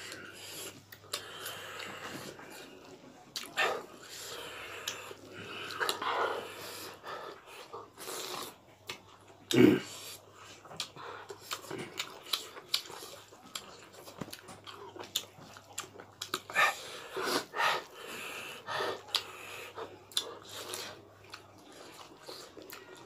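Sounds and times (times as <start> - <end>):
wet chewing and lip-smacking: 0.1 - 18.3, 19.0 - 23.0.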